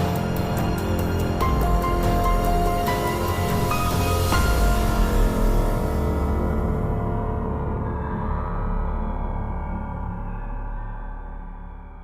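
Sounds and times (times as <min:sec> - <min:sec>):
steady low drone: 0:00.0 - 0:12.0.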